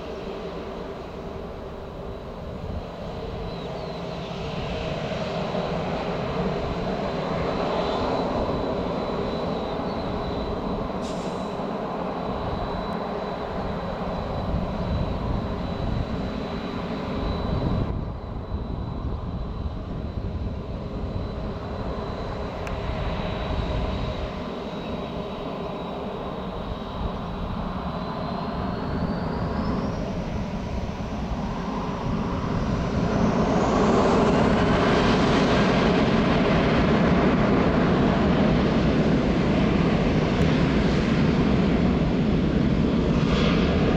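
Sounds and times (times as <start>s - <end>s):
jet engines rumbling and whining: 0.0s - 43.9s.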